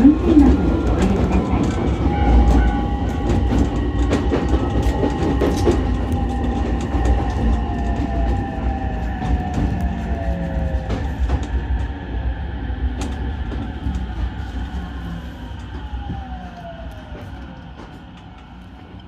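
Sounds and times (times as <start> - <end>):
electric train motor whine: 0.0 - 19.0.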